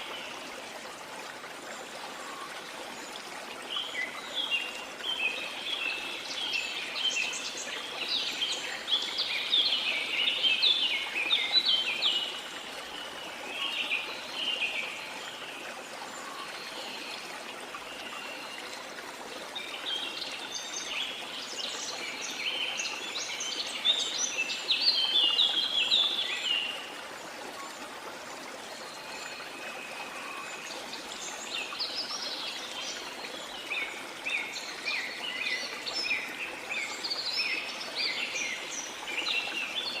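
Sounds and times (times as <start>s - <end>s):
flowing water rushing: 0.0s - 40.0s.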